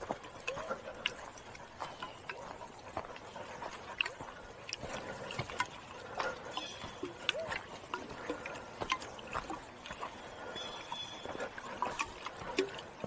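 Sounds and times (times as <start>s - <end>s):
footsteps on rocky dirt trail: 0.0s - 13.0s.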